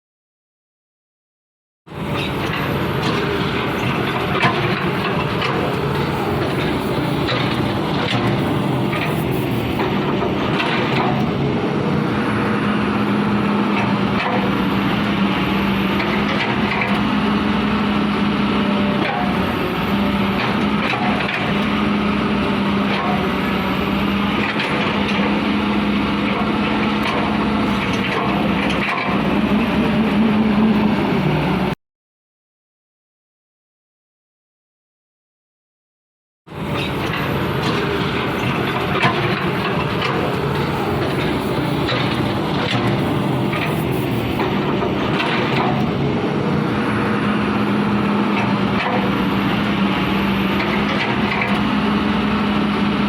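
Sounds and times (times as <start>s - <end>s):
excavator diesel engine drone: 1.9s - 31.8s, 36.5s - 53.0s.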